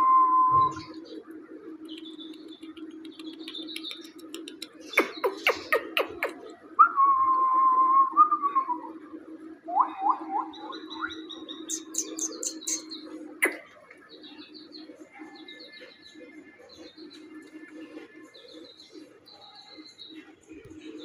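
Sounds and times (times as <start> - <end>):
small birds chirping: 0.0 - 6.8, 8.7 - 21.0.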